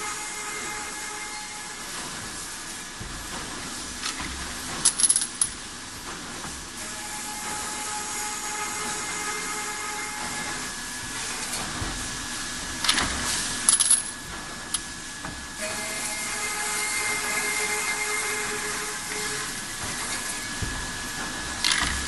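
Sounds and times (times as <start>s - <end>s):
pipe cutting machine whine: 0.0s - 4.7s, 6.6s - 22.0s.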